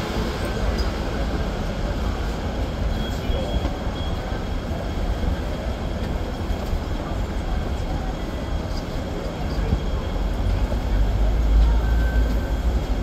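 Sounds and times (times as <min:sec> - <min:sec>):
city street noise: 0:00.0 - 0:13.0.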